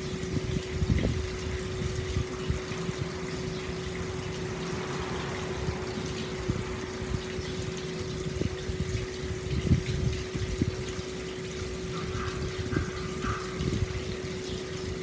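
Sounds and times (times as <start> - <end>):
water pouring into a bath: 0.0 - 15.0.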